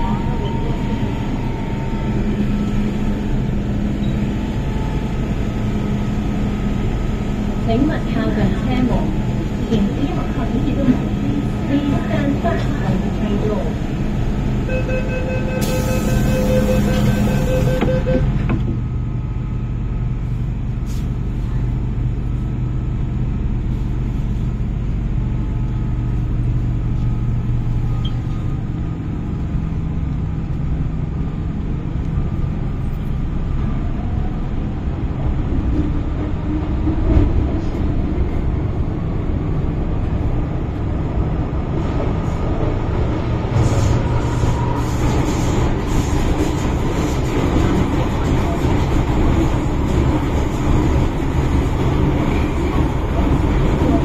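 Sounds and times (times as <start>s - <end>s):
train wheels rumbling on rail: 0.0s - 14.7s, 15.5s - 54.0s.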